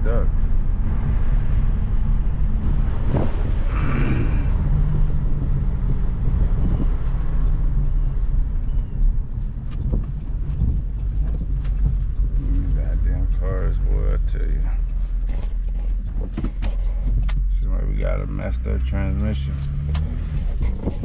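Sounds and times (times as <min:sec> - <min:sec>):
car engine drone: 0:00.0 - 0:21.0
road noise: 0:00.0 - 0:21.0.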